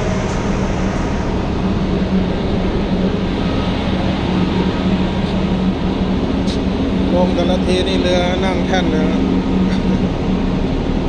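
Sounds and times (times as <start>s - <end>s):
ship machinery droning: 0.0s - 11.0s.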